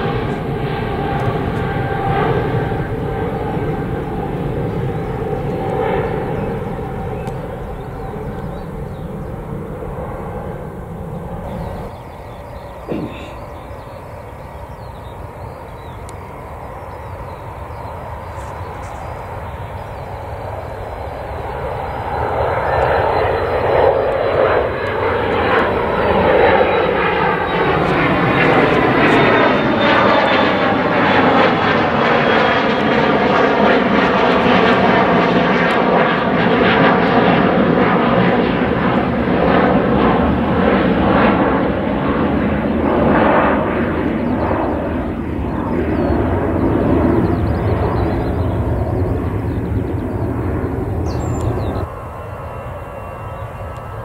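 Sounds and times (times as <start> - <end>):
jet airliner engines: 0.0 - 54.0.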